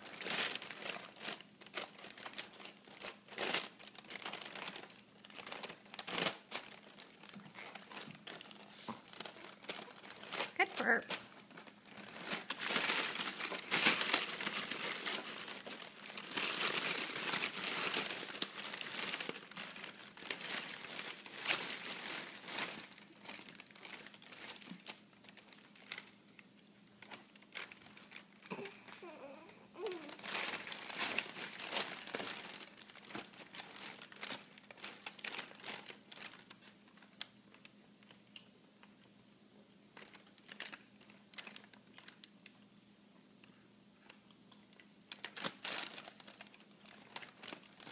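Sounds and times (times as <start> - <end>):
plastic chip bag crinkling: 0.0 - 38.4, 39.9 - 42.6, 44.0 - 47.9.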